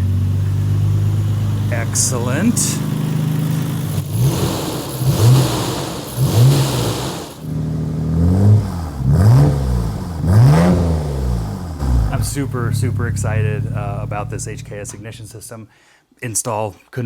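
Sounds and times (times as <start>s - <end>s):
car engine revving: 0.0s - 15.3s.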